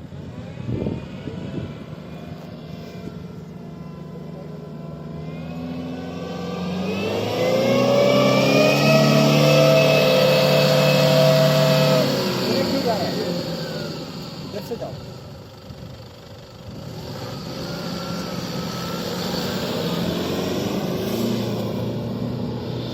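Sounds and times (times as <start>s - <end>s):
diesel engine revving: 0.0s - 22.9s.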